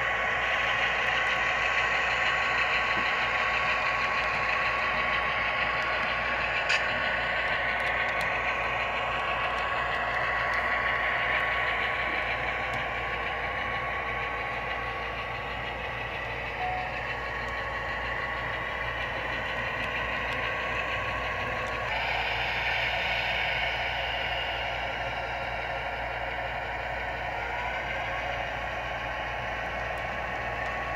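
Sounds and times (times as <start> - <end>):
diesel engine drone: 0.0 - 30.9.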